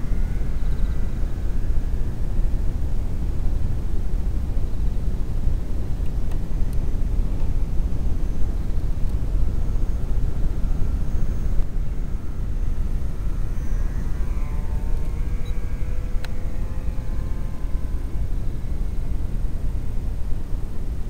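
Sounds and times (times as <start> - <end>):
electric model plane motor whine: 0.0 - 21.0
wind rumbling on microphone: 0.0 - 21.0.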